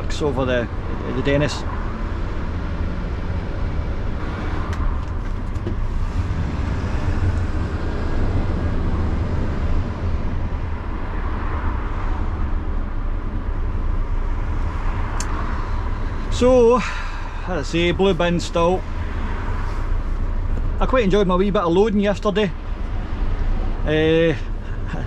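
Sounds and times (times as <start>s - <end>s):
lorry engine and road rumble: 0.0s - 25.0s.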